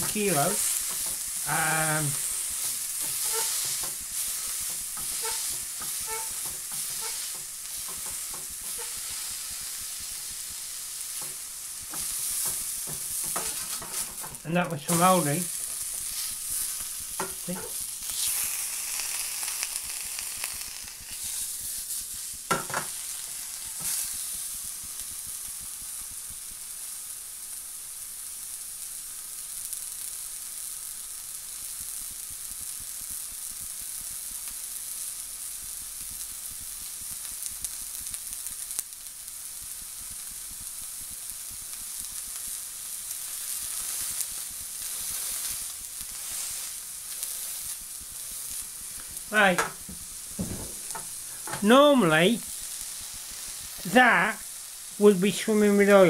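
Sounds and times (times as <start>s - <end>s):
burger patty sizzling in pan: 0.0s - 56.0s.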